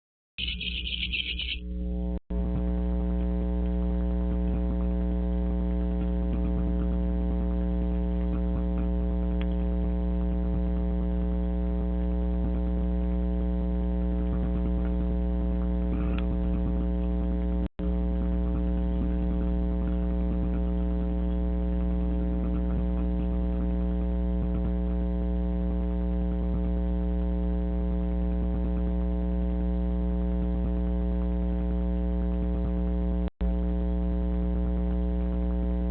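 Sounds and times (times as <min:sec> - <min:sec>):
electrical hum: 0:00.4 - 0:35.9.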